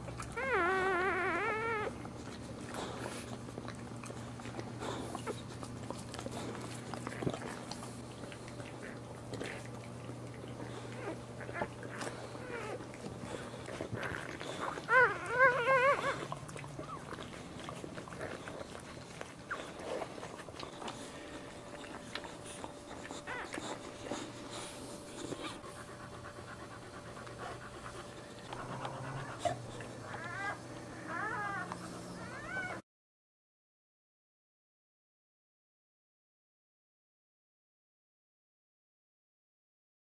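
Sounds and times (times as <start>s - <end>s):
dog panting: 0.0s - 32.8s
dog whining: 0.0s - 32.8s.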